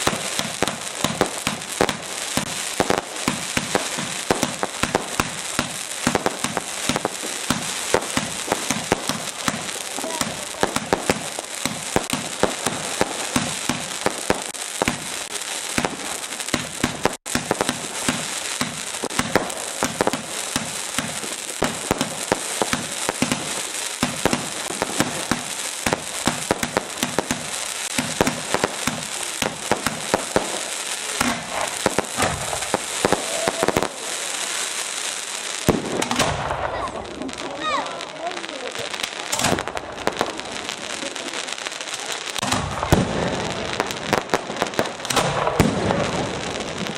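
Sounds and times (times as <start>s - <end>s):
fireworks crackling: 0.0s - 46.9s.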